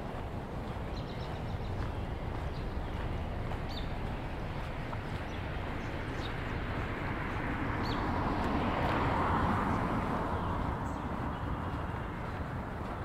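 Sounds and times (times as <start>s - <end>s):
steady low rumble: 0.0s - 13.0s
car tyre noise passing: 1.6s - 13.0s.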